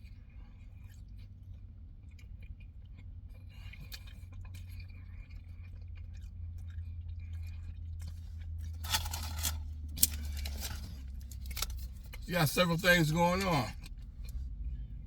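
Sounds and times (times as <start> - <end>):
person chewing food: 0.0 - 12.2.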